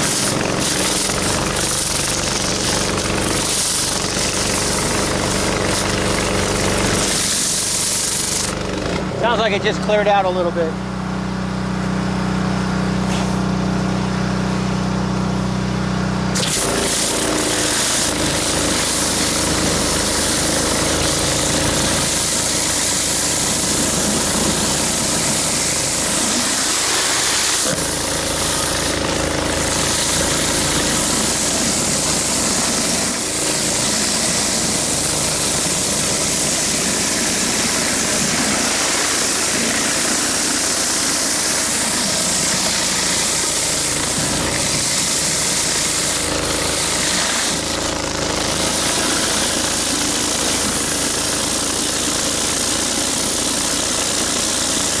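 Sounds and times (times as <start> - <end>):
high-pressure water hissing on concrete: 0.0 - 8.9, 13.0 - 13.4, 16.4 - 55.0
pressure washer engine running: 0.0 - 55.0.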